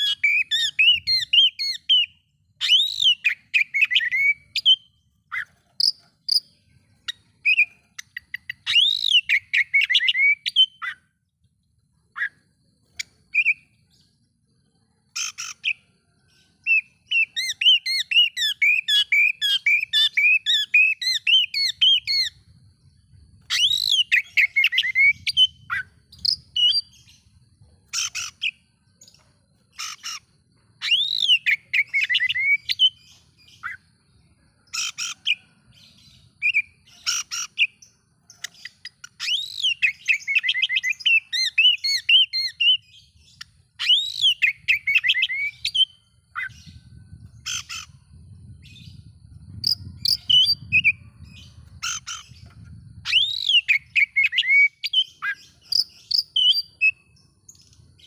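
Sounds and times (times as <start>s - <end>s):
bird singing chirps: 0.0s - 58.0s.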